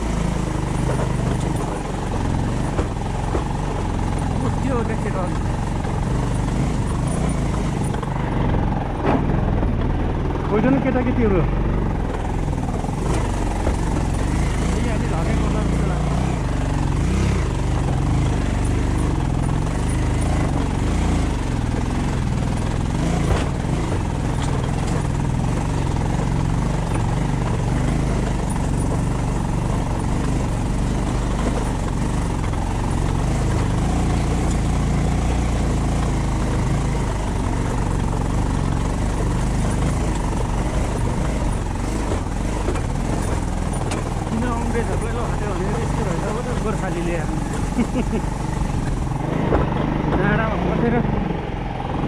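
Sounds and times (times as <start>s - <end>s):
road noise: 0.0s - 52.0s
vehicle engine running: 0.0s - 52.0s.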